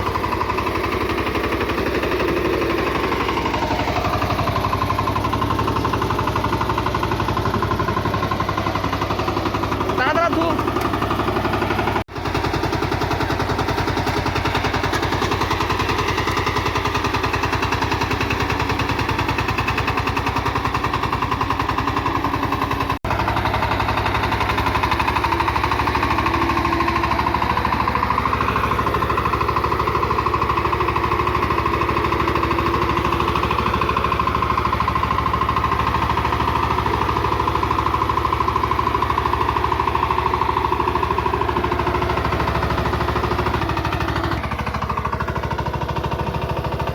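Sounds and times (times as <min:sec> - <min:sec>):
diesel tiller engine thumping: 0:00.0 - 0:46.9.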